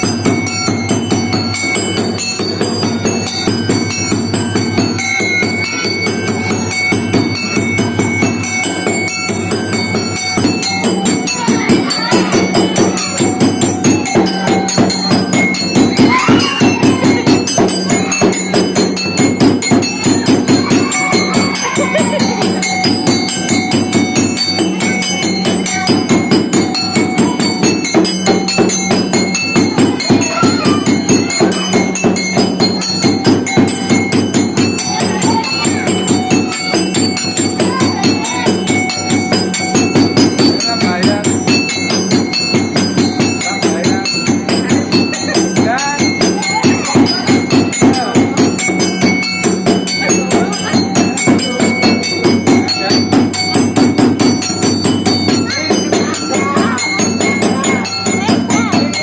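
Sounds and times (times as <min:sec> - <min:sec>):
jingling bells: 0:00.0 - 0:59.0
street-show music with fast percussion: 0:00.0 - 0:59.0.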